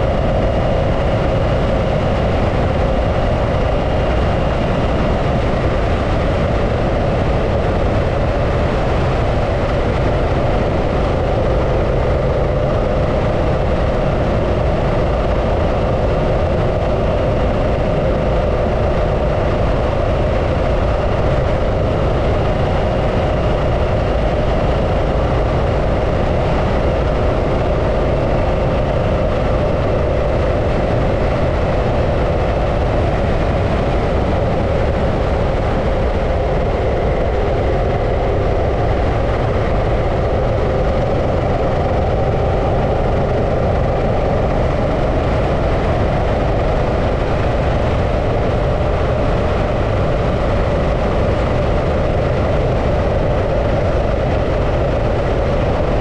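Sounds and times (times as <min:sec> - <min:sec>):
low rumble of riding noise: 0:00.0 - 0:56.0.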